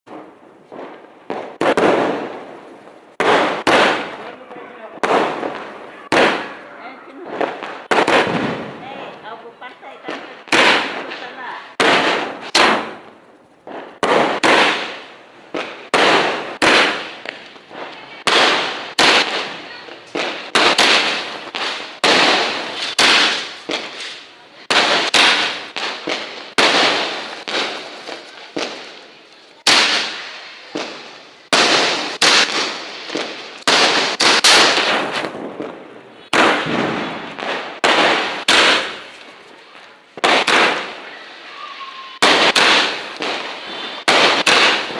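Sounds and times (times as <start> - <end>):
firecrackers banging: 0.1 - 44.9.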